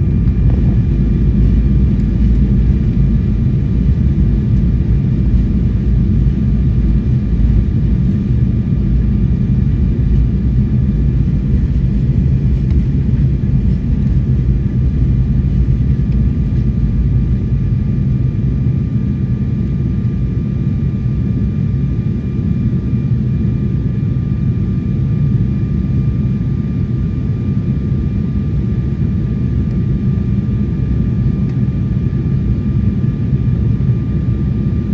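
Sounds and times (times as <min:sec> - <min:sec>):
airliner cabin roar: 0:00.0 - 0:34.9.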